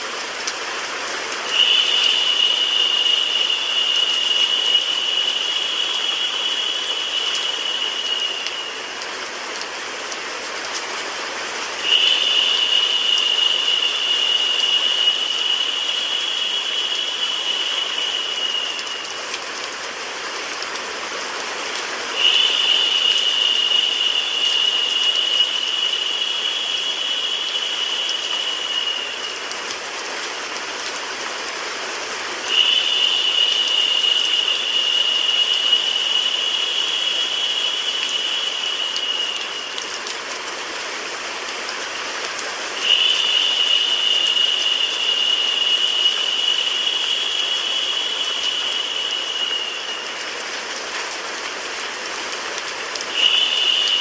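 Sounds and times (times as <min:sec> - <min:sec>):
synthetic rain hiss: 0:00.0 - 0:54.0.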